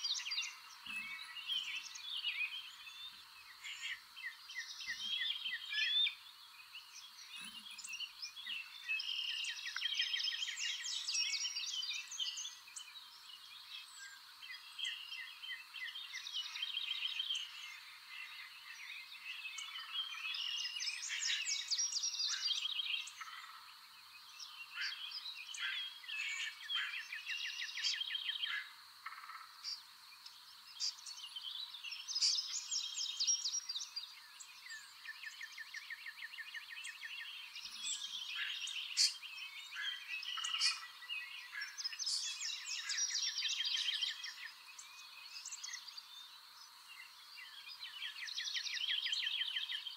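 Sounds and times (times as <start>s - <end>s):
small birds chirping and trilling: 0.0s - 49.9s.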